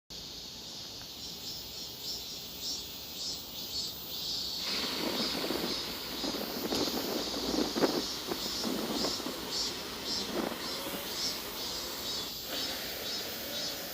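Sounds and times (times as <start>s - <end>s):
cicadas singing: 0.1s - 13.9s.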